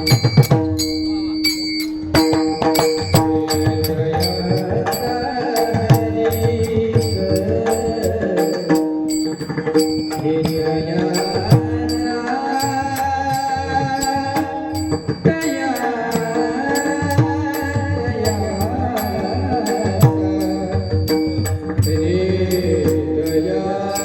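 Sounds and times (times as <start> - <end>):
drums and bright percussion: 0.0 - 24.0
held tones: 0.0 - 24.0.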